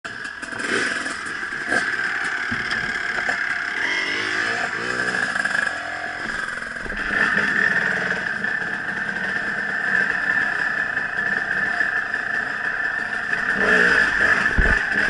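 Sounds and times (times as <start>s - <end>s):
dirt bike engines revving: 0.1s - 15.0s.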